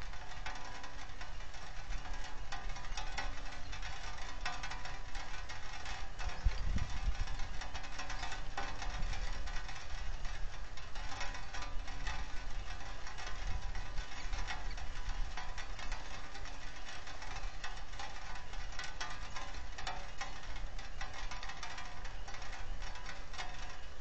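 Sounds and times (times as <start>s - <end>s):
rain pattering on microphone: 0.0s - 24.0s.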